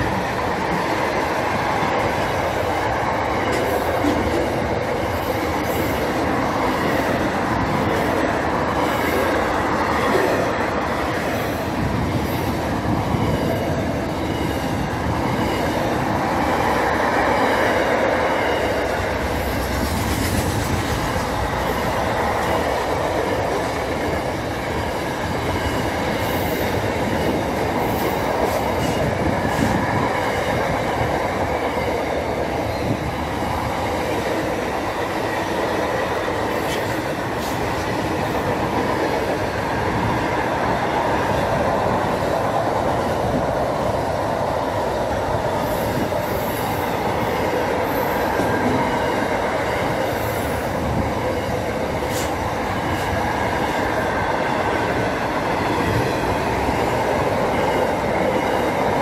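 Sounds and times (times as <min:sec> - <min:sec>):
freight train wheels rolling: 0:00.0 - 0:59.0.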